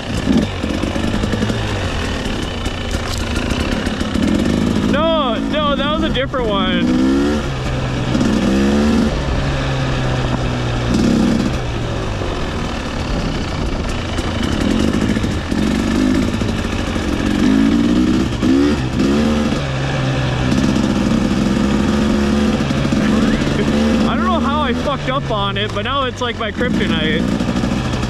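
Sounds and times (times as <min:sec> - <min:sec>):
dirt bike engine idling: 0:00.0 - 0:28.0
engine throttle revs: 0:00.0 - 0:28.0.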